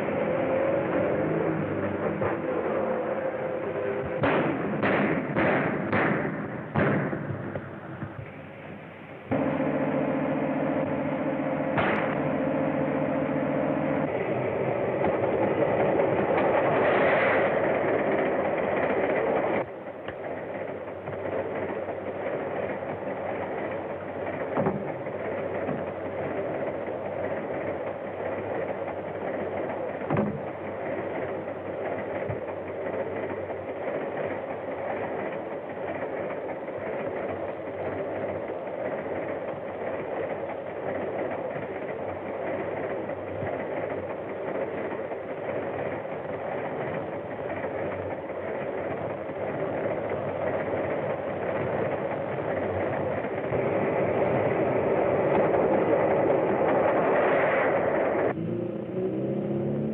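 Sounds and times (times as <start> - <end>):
steam train running on rails: 0.0 - 59.9.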